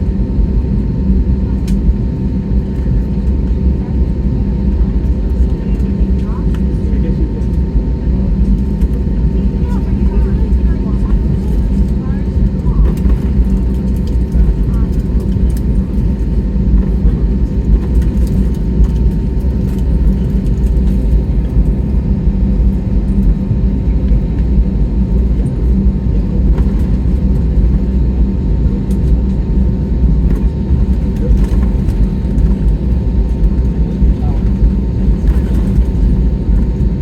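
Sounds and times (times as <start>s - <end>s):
airliner engines rumbling: 0.0s - 37.0s
cabin air hum: 5.5s - 37.0s.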